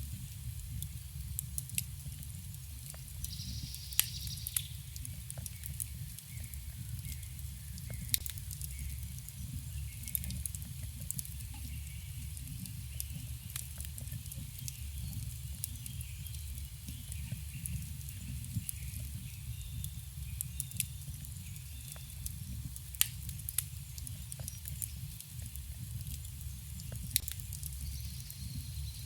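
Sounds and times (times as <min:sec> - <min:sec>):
flames rumbling: 0:00.0 - 0:29.0
wood crackling and popping: 0:00.0 - 0:29.0.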